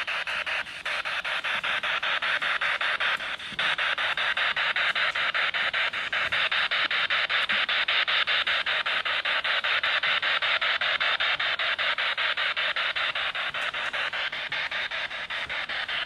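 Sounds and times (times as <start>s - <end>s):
pulsing radio static: 0.0s - 16.0s.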